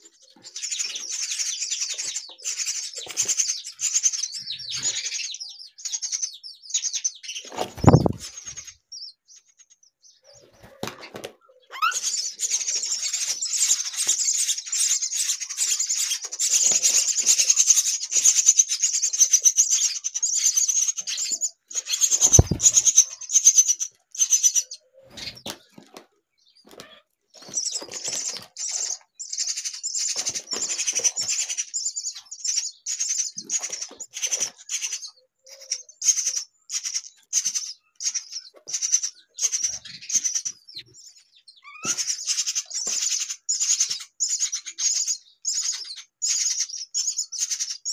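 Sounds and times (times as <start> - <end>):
bird chicks rasping chirps: 0.0 - 47.9.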